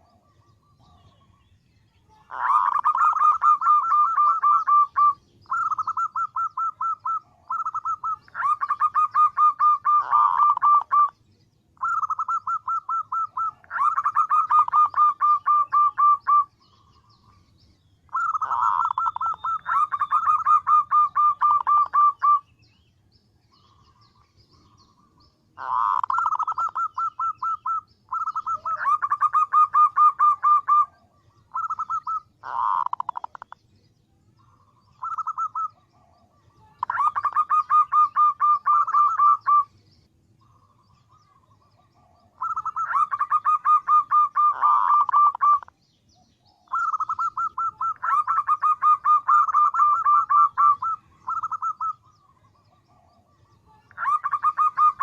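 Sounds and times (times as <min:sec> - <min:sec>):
dove calling: 0:00.0 - 0:22.8, 0:23.4 - 0:55.0.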